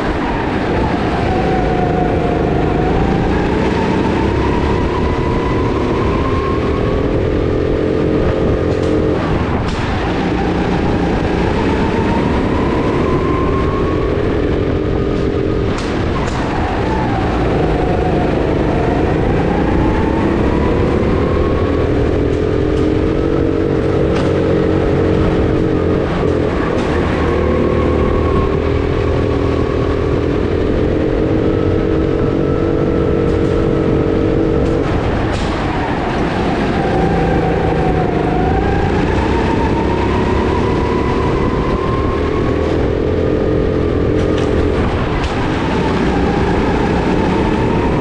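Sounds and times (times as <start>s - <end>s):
go-kart engine racing: 0.0s - 48.0s.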